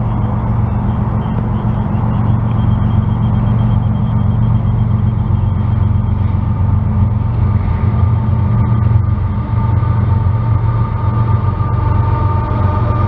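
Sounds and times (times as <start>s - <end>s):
locomotive low rumble: 0.0s - 13.0s.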